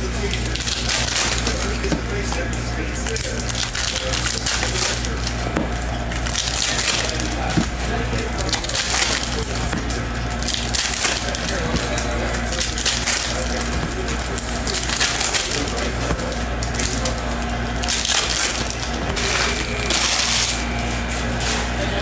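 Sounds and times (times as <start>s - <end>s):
plastic wrappers crinkling and tearing: 0.0s - 21.8s
steady low hum: 0.0s - 22.0s
cards being shuffled: 0.2s - 21.7s.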